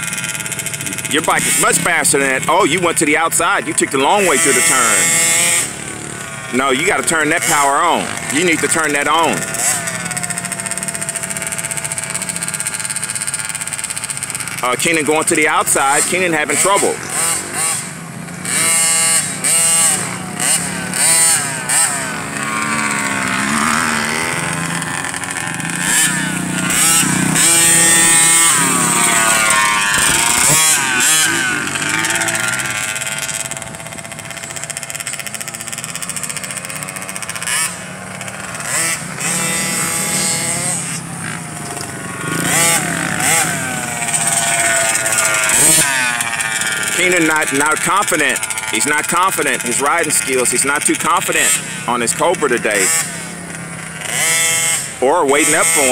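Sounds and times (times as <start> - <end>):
motocross bikes revving: 0.0 - 55.9.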